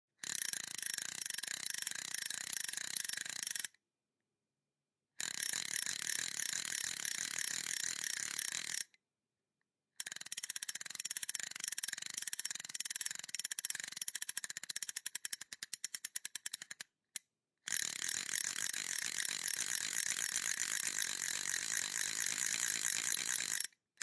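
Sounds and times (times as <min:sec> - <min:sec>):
fishing reel clicking whir: 0:00.2 - 0:03.8, 0:05.2 - 0:08.9, 0:10.0 - 0:16.9, 0:17.7 - 0:23.7.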